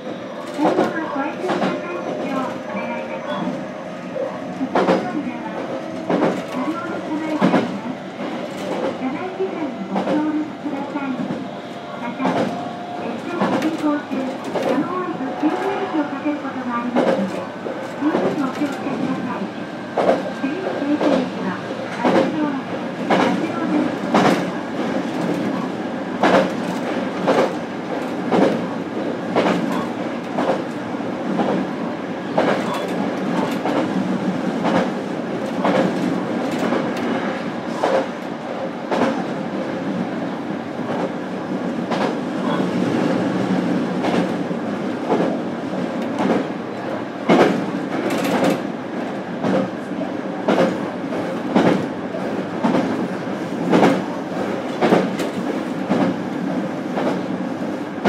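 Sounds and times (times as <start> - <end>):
wheels rumbling on rail: 0.0 - 58.0
rail-joint clicks: 0.4 - 21.3, 21.9 - 28.7, 29.3 - 31.7, 32.4 - 34.0, 34.6 - 38.3, 45.0 - 49.8, 50.5 - 51.9, 52.6 - 57.7.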